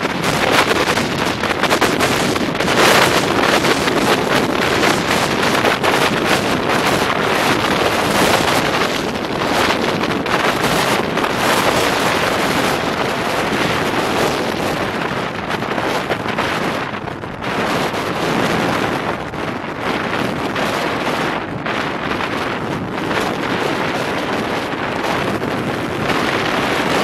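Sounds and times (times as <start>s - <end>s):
car road and wind noise: 0.0s - 27.0s
wind buffeting microphone: 0.0s - 27.0s.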